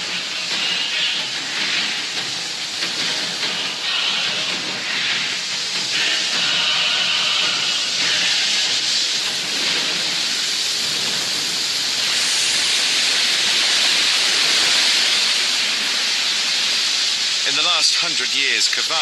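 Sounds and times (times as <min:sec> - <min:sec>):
loud hiss of venting steam: 0:00.0 - 0:19.0.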